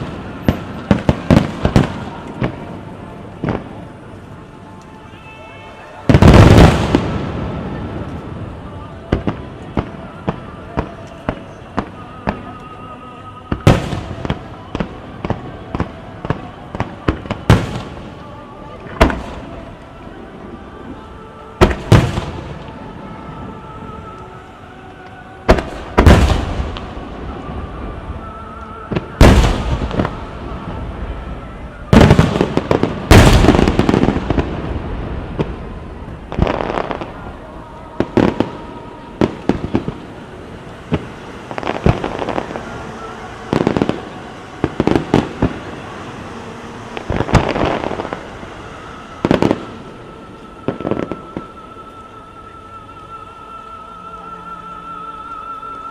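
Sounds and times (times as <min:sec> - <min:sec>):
fireworks banging: 0:00.0 - 0:05.2, 0:05.8 - 0:12.7, 0:13.5 - 0:19.8, 0:20.4 - 0:24.2, 0:25.4 - 0:28.2, 0:28.9 - 0:51.7
crackling firework bursts: 0:00.0 - 0:12.9, 0:13.5 - 0:24.5, 0:25.4 - 0:52.2
faint music over loudspeakers: 0:00.0 - 0:55.9.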